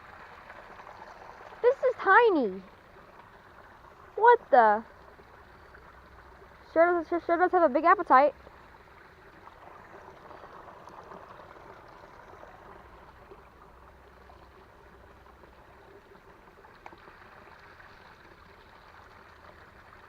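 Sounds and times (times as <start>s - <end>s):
creek running: 0.0s - 20.0s.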